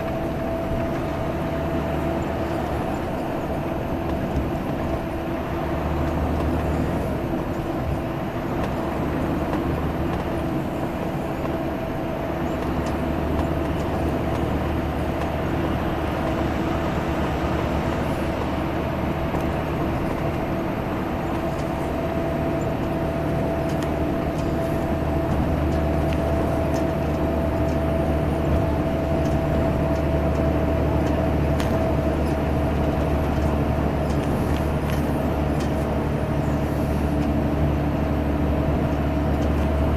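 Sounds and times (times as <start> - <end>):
bus diesel engine rumbling: 0.0 - 39.9
steady whine: 0.0 - 39.9.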